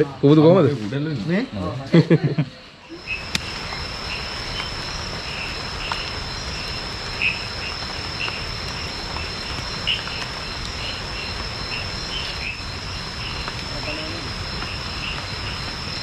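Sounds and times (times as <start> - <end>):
cricket chirps: 0.0 - 16.0
crickets trilling: 0.0 - 16.0.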